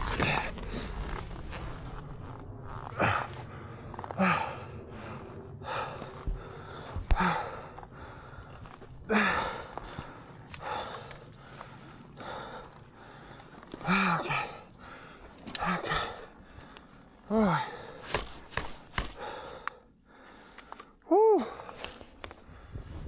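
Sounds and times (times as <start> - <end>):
man panting heavily: 3.0 - 21.7.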